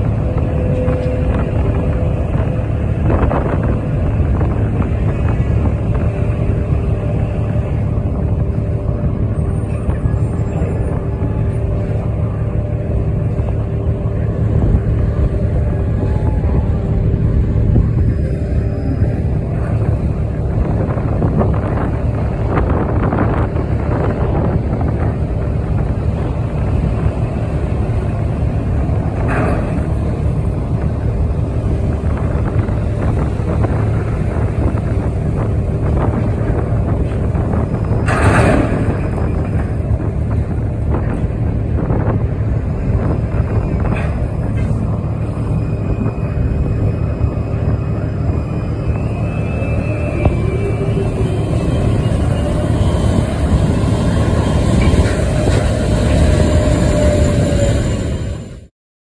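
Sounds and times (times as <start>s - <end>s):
crane machinery rumble: 0.0s - 58.7s.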